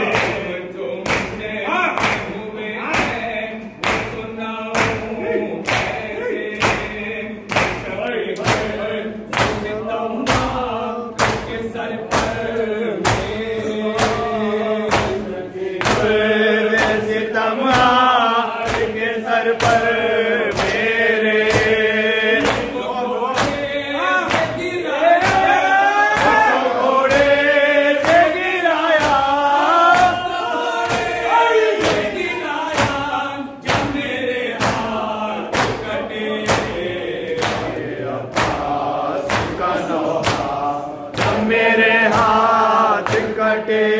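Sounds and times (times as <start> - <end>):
hands slapping chests: 0.0 - 3.2, 3.8 - 10.6, 11.2 - 14.3, 14.9 - 16.2, 18.6 - 19.0, 19.6 - 19.9, 20.5 - 22.8, 23.4 - 23.6, 25.2 - 43.4
men chanting in unison: 0.0 - 43.9.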